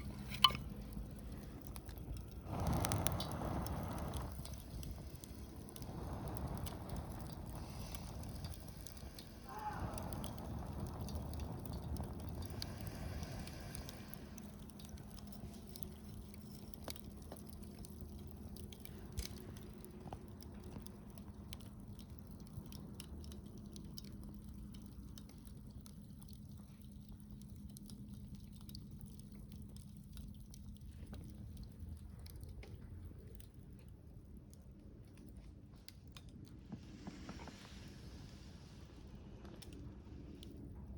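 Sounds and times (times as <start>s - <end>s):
low fire rumble: 0.0s - 40.9s
wood fire crackling: 0.0s - 40.9s.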